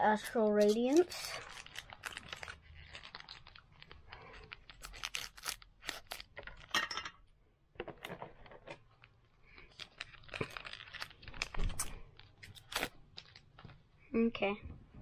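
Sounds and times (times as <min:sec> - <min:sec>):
foil wrapper tearing and crinkling: 0:00.0 - 0:06.8, 0:08.0 - 0:13.8.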